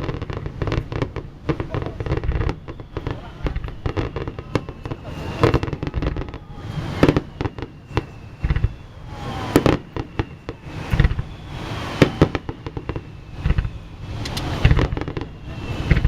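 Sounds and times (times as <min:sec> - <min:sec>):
firework crackle: 0:00.0 - 0:16.0
firework shells bursting: 0:00.0 - 0:16.0
firework whistling: 0:00.0 - 0:16.0.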